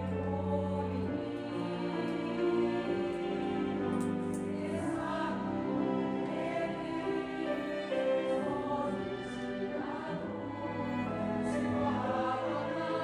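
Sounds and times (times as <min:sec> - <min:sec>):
choir singing sustained notes: 0:00.0 - 0:13.0
grand piano accompaniment: 0:00.0 - 0:13.0.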